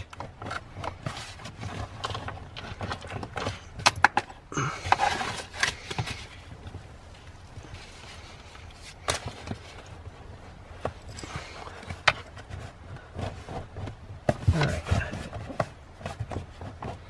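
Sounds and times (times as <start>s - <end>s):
strap rustling: 0.0s - 17.0s.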